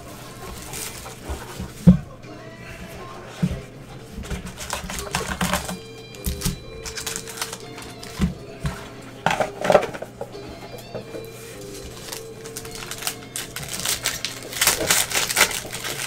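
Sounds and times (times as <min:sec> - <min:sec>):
foil card pack crinkling: 0:00.0 - 0:02.0, 0:04.0 - 0:16.0
background music: 0:00.0 - 0:16.0.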